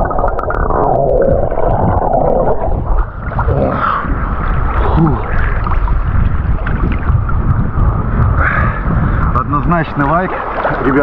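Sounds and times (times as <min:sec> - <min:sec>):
heavy low rumble: 0:00.0 - 0:09.9
sea water sloshing and gurgling: 0:00.0 - 0:11.0.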